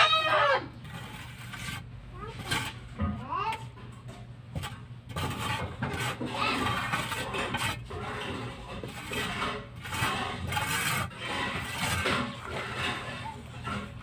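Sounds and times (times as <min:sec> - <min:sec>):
trowel scraping cement wall: 0:00.0 - 0:14.0.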